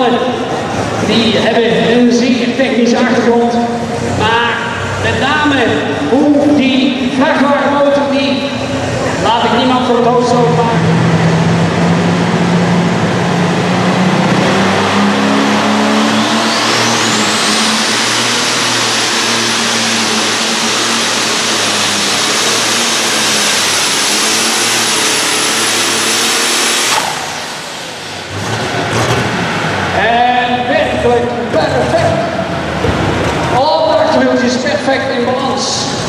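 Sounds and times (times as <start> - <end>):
high whine: 0.0 - 36.0
tractor engine at full throttle: 0.0 - 36.0.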